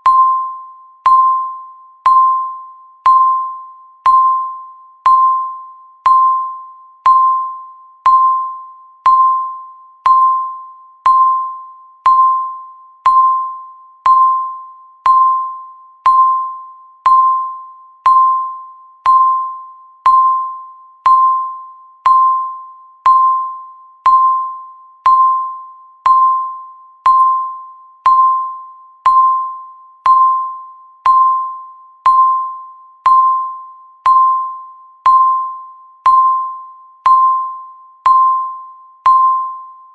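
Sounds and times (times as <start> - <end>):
bell-like timer ticks: 0.0 - 39.9.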